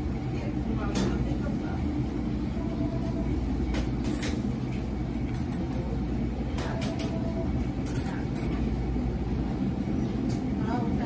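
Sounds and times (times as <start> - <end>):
restaurant background rumble: 0.0 - 11.0.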